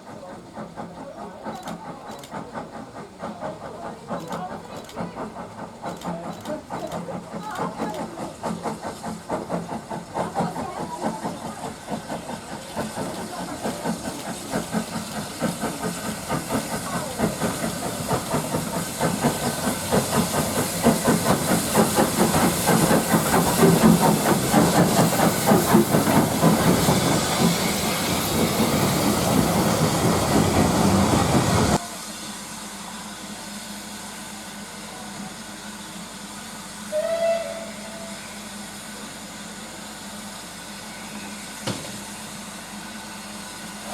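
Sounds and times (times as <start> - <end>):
steam locomotive exhaust beats: 0.0 - 43.9.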